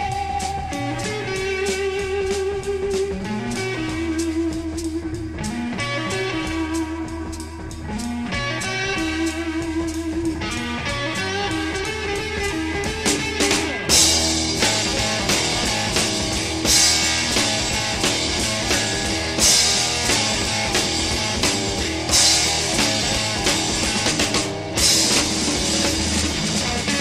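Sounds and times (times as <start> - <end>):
drum kit: 0.0 - 27.0
electric guitar: 0.0 - 27.0.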